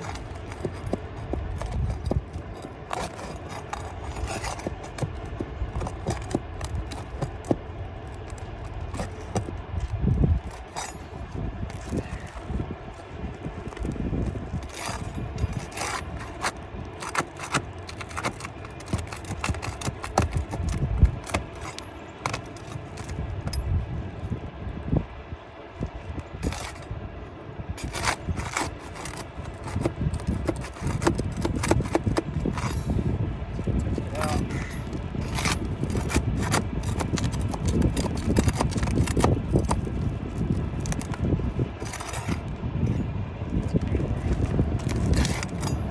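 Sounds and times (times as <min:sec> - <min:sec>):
hand tools clicking and scraping: 0:00.0 - 0:23.8, 0:25.8 - 0:26.9, 0:27.7 - 0:42.5, 0:43.6 - 0:45.9.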